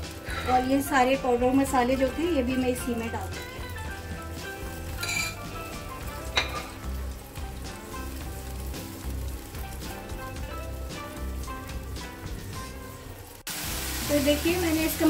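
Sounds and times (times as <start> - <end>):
background music with low beat: 0.0 - 13.1
sauce sizzling in a frying pan: 0.0 - 15.0.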